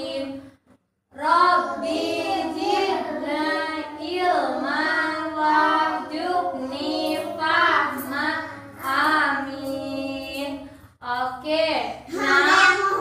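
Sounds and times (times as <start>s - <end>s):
girl and woman chanting a prayer: 0.0s - 13.0s.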